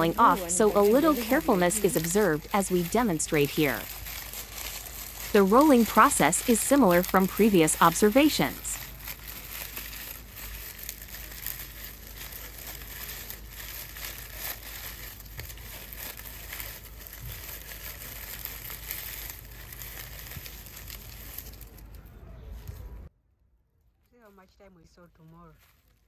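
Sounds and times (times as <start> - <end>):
dry leaves crinkling and crackling: 0.0 - 23.0, 24.0 - 26.0.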